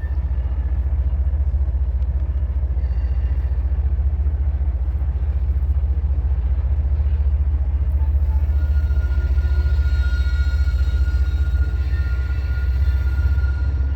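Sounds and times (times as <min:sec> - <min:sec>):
diesel locomotive engine rumbling: 0:00.0 - 0:13.9.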